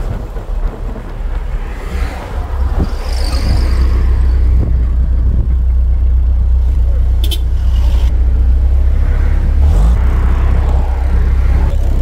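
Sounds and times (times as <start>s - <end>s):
car driving rumble and wind: 0.0s - 12.0s.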